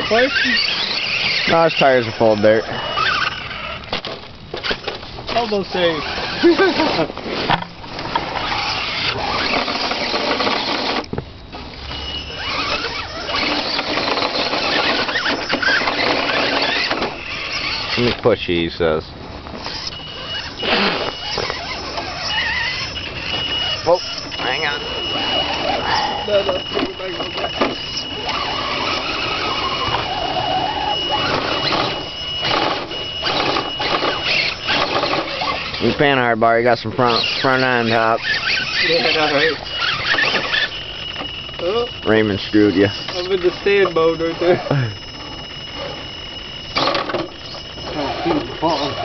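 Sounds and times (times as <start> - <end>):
constant high tone: 0.0 - 49.0
electric motor and gears whining: 0.0 - 49.0.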